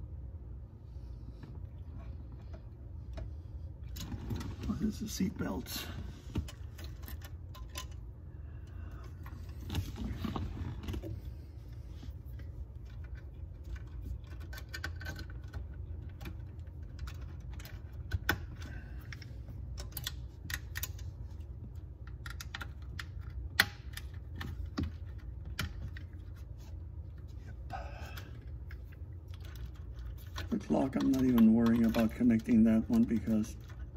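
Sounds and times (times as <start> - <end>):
steady low hum: 0.0 - 33.9
small clicks and rattles of wiring: 6.3 - 33.9.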